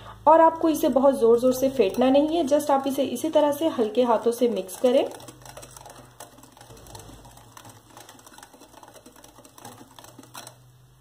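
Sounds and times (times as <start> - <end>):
low steady hum: 0.0 - 11.0
whisk ticking against glass bowl: 0.6 - 10.8.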